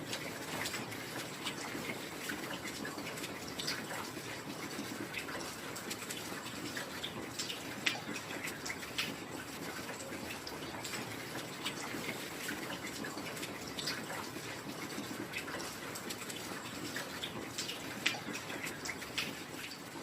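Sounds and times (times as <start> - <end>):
close water drops dripping: 0.0 - 20.0.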